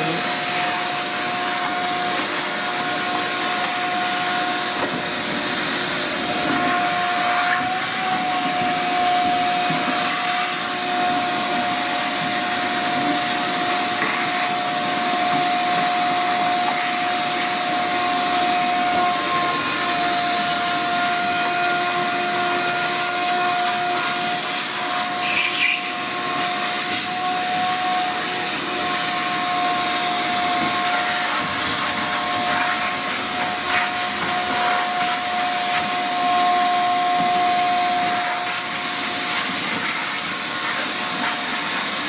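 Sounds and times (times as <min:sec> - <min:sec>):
shop vacuum running: 0:00.0 - 0:42.0.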